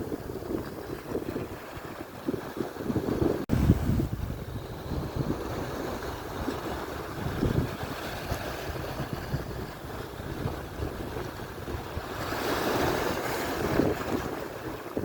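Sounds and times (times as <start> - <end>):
surf washing on shore: 0.0 - 15.0
wind on microphone: 0.0 - 15.0.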